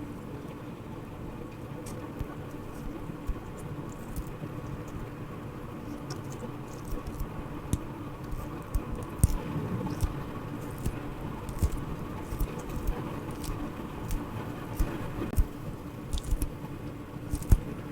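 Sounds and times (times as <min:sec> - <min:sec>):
low background hum: 0:00.0 - 0:17.9
squishy toy clicks and crinkles: 0:01.9 - 0:05.1, 0:05.8 - 0:16.6, 0:17.2 - 0:17.8.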